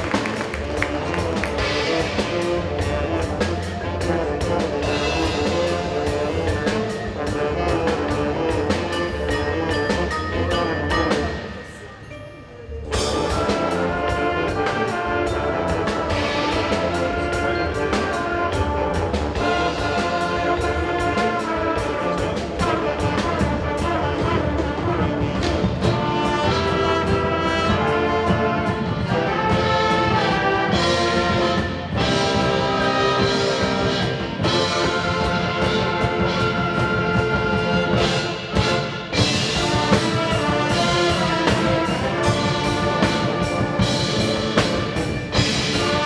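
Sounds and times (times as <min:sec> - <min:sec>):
trombones and trumpets: 0:00.0 - 0:12.0, 0:12.9 - 0:46.0
percussion hits: 0:00.0 - 0:12.2, 0:12.8 - 0:46.0
wind ensemble playing chords: 0:00.0 - 0:12.2, 0:12.9 - 0:46.0.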